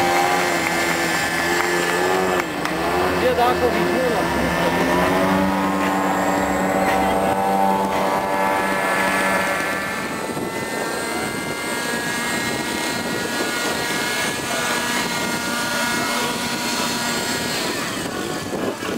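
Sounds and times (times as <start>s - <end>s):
model helicopter hovering: 0.0s - 18.9s.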